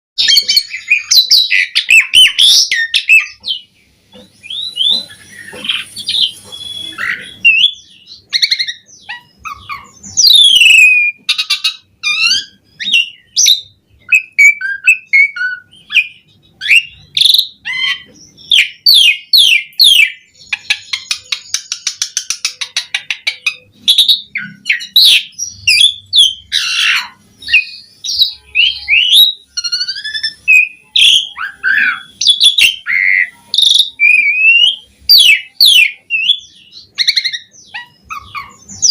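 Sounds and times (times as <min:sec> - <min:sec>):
starling singing: 0:00.2 - 0:38.9.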